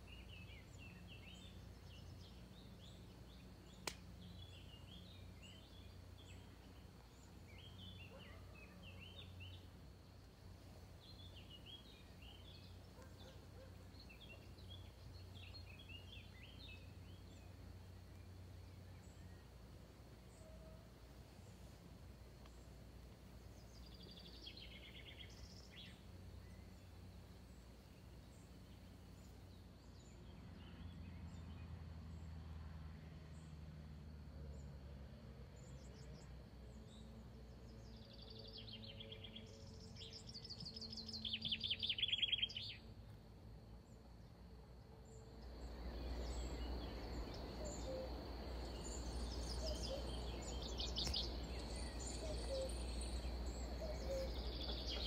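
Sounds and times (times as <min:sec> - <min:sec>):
songbirds trilling: 0:00.0 - 0:21.8, 0:22.4 - 0:31.6, 0:36.9 - 0:42.8, 0:45.0 - 0:55.0
low background noise: 0:00.0 - 0:55.0.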